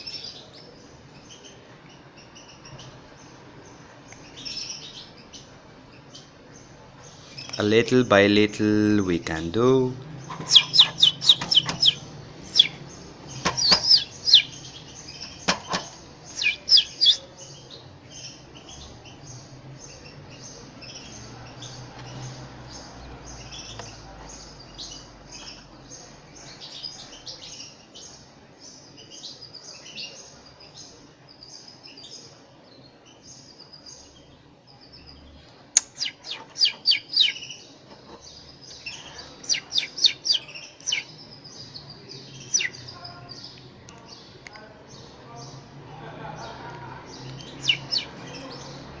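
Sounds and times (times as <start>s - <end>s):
chicks cheeping: 0.0s - 49.0s.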